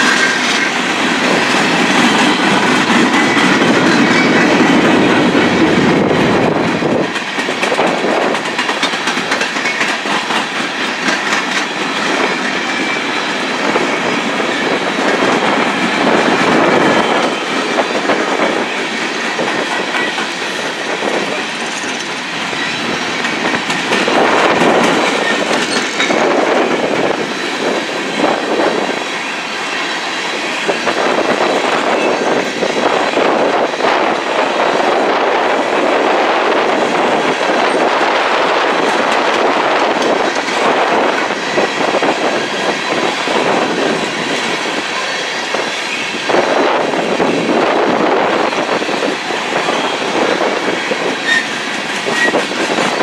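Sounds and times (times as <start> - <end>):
steel wheels rumbling on rail: 0.0 - 53.0
wheels clickety-clack over rail joints: 0.0 - 53.0.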